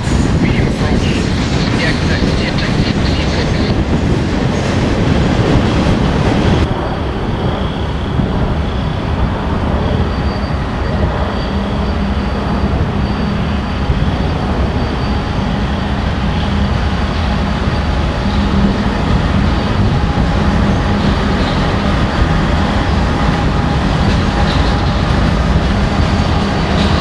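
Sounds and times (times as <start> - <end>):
diesel locomotive drone: 0.0 - 27.0
freight cars rumbling by: 0.0 - 27.0.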